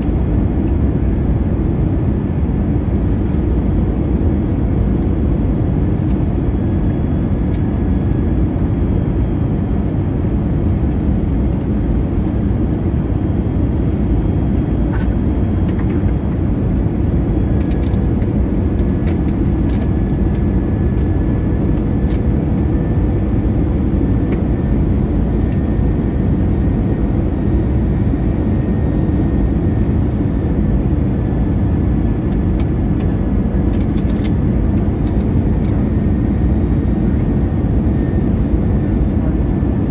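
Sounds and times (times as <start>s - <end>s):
airliner low rumble: 0.0s - 39.9s.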